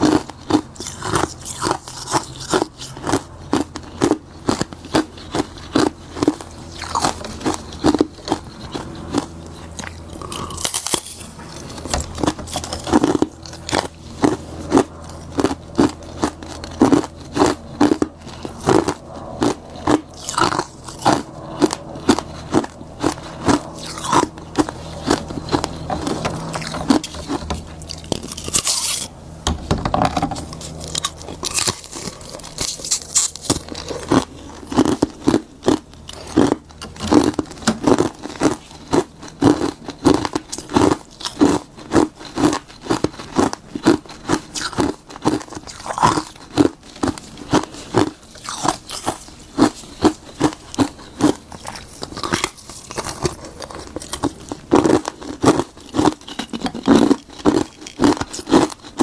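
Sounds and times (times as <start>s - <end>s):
crunching ice: 0.0s - 59.0s
faint low hum: 0.0s - 59.0s.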